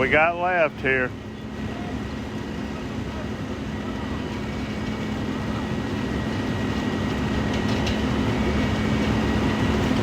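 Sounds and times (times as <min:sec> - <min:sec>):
diesel engines rumbling: 0:00.0 - 0:10.0.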